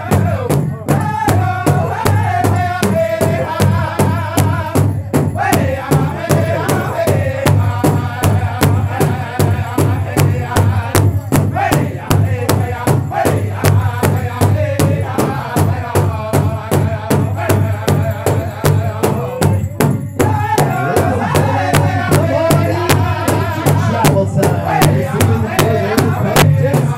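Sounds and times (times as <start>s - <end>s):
group singing: 0.0s - 26.9s
large hide drum beating: 0.0s - 26.9s.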